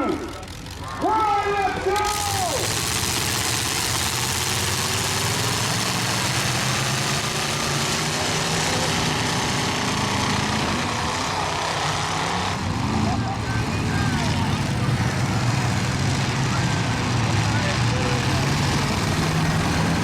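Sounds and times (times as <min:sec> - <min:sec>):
truck engines running: 0:00.0 - 0:20.0.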